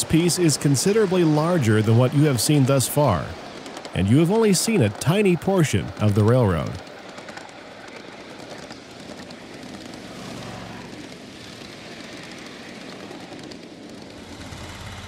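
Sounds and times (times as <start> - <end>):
miniature train wheels rattling: 0.0 - 15.0.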